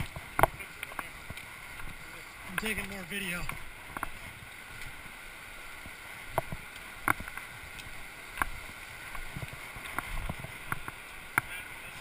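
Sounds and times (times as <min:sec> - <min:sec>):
footsteps on river cobbles: 0:00.0 - 0:12.0.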